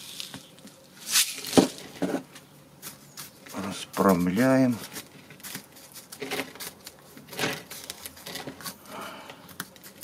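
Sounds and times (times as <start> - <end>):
stick scraping pebbles: 0.0 - 8.8.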